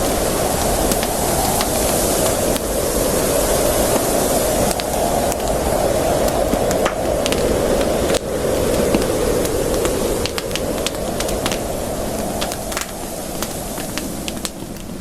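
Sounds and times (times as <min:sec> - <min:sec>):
campfire crackling and popping: 0:00.0 - 0:15.0
steady rushing hiss: 0:00.0 - 0:15.0.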